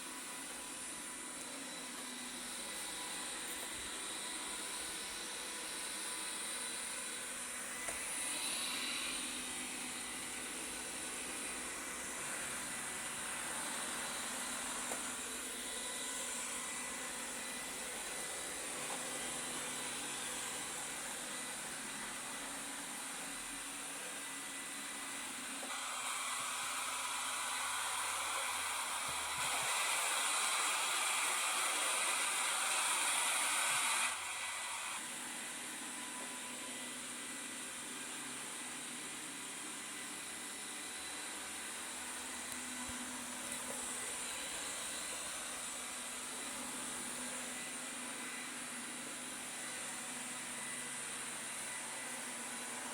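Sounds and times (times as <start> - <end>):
robot vacuum whirring: 0.0 - 52.9.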